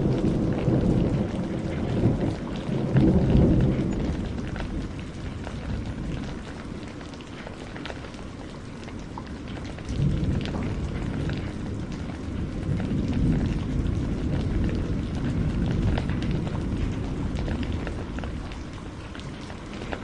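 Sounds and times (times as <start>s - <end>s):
close raindrop ticks: 0.0s - 20.0s
deep rumble of thunder: 0.0s - 20.0s
steady rain: 0.0s - 20.0s.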